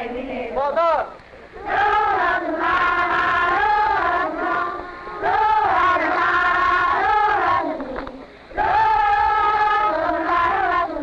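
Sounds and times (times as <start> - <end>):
children singing in unison: 1.6 - 11.0.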